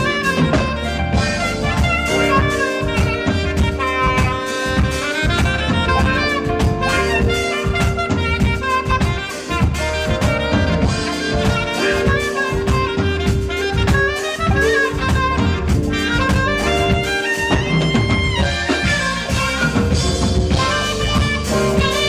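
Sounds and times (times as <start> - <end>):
bass line: 0.0 - 22.0
drum kit beat: 0.0 - 22.0
saxophone jazz melody: 0.0 - 22.0.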